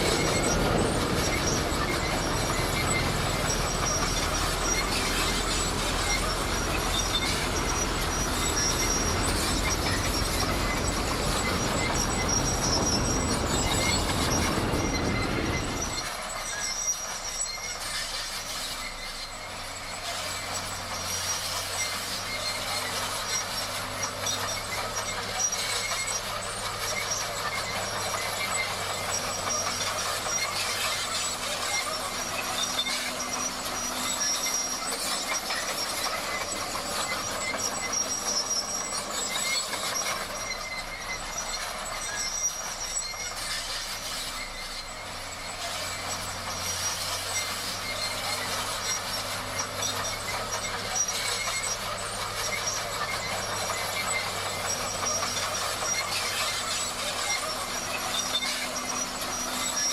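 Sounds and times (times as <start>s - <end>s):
bulldozer diesel engine running: 0.0s - 59.9s
steel tracks squealing and clanking: 0.0s - 59.9s.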